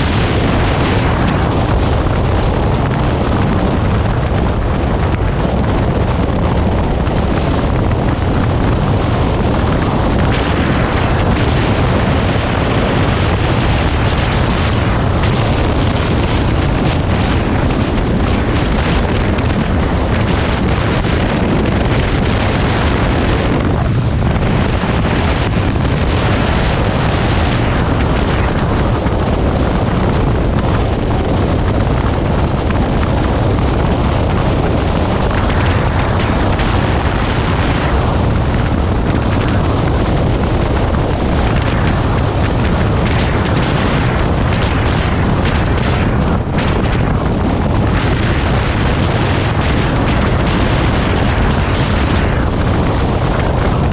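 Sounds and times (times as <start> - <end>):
low rumble of motorcycle: 0.0 - 53.9
wind rush on microphone: 0.0 - 53.9.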